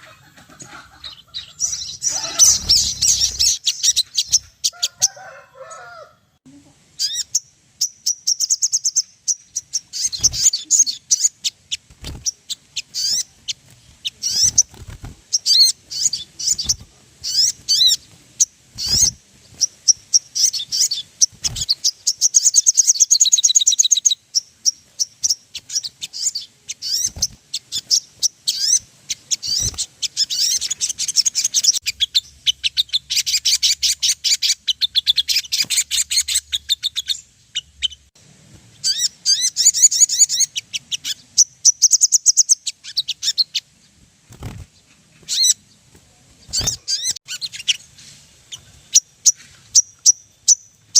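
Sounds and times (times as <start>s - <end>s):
songbirds chattering and trilling: 0.0s - 50.9s.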